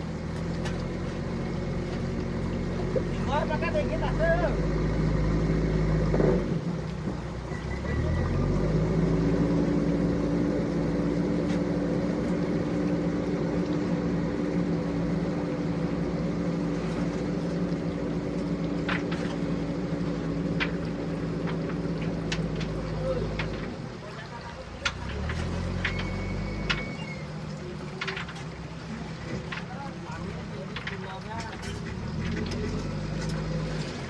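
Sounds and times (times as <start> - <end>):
heavy machine engine running: 0.0 - 34.0.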